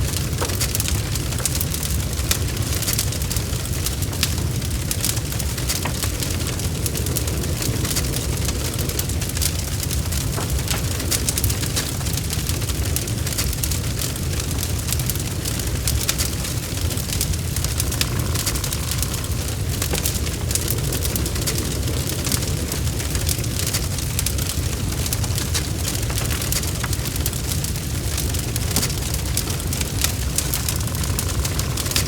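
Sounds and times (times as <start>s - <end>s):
low fire rumble: 0.0s - 32.0s
wood fire crackling and popping: 0.0s - 32.0s.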